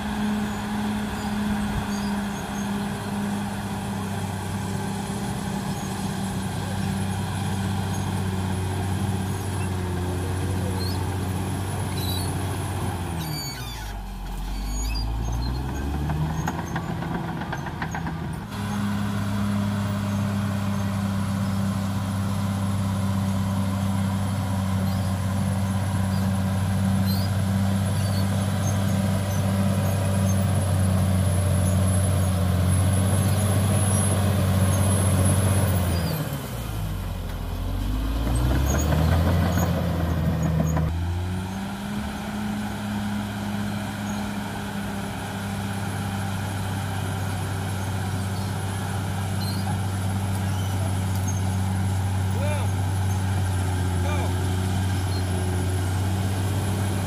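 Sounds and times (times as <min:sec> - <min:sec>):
bulldozer diesel engine with whine: 0:00.0 - 0:57.0.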